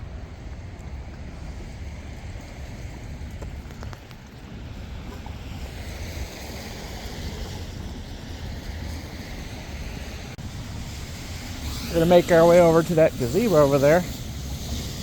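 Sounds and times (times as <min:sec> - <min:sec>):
hiss of wet street noise: 0:00.0 - 0:15.0
wind rumbling on microphone: 0:00.0 - 0:15.0.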